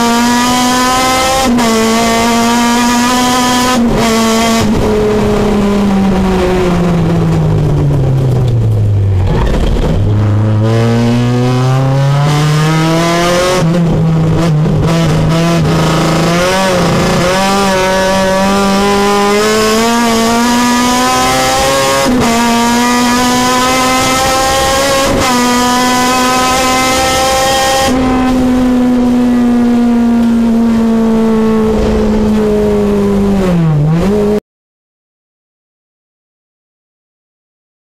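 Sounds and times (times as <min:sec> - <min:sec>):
race car engine at full throttle: 0:00.0 - 0:34.4.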